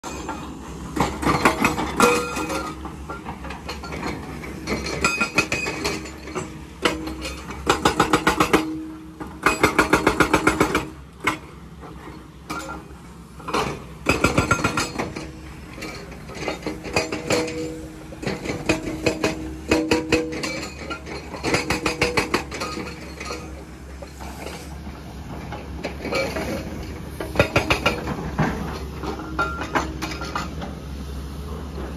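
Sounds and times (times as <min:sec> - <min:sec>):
diesel engine running: 0:00.0 - 0:31.9
hydraulic breaker hammering rock: 0:00.1 - 0:30.8.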